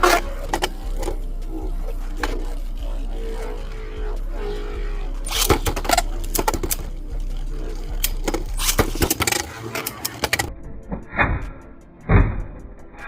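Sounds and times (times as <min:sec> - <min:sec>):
spinning tops whirring: 0:00.0 - 0:10.5.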